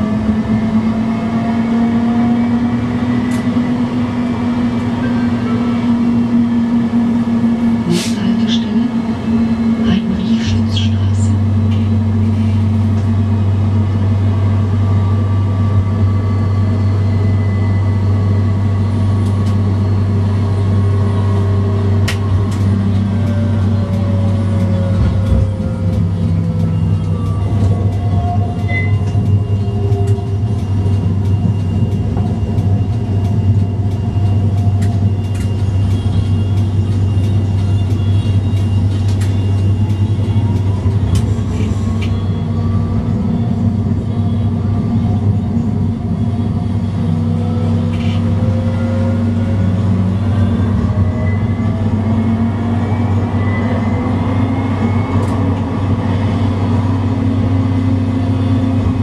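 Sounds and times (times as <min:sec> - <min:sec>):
tram low rumble: 0:00.0 - 0:59.0
tram motor whine: 0:00.0 - 0:59.0.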